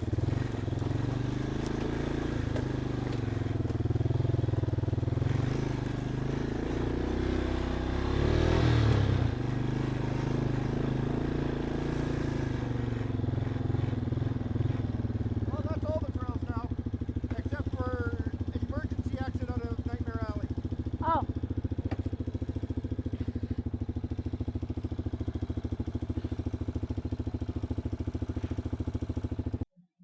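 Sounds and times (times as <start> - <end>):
off-road vehicle engine running: 0.0 - 29.8.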